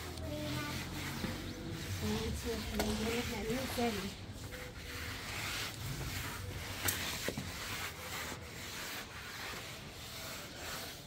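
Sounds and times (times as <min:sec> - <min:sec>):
mop cloth rubbing on tiles: 0:00.0 - 0:11.0.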